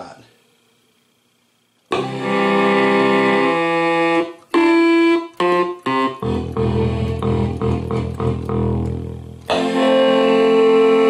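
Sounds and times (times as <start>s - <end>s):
synthesizer chords and notes: 1.9s - 11.0s.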